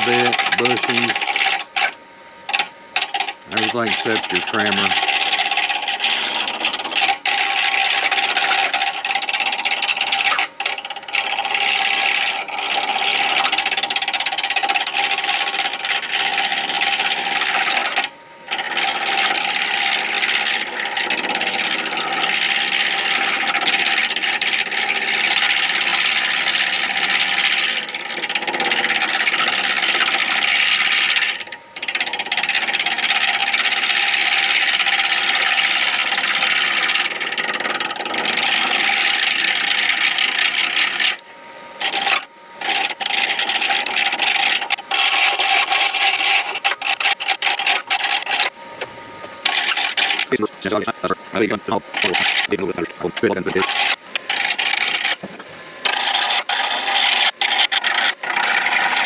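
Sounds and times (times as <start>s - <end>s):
lathe motor whine: 0.0s - 59.0s
lathe tool scraping plastic: 0.0s - 59.0s.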